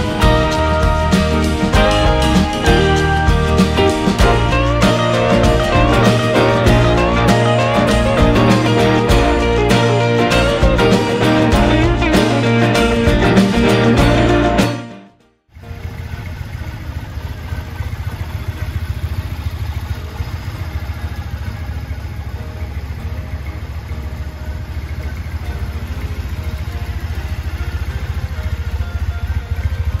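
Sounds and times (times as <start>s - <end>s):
motorcycle engine idling: 0.0s - 14.6s, 15.5s - 30.0s.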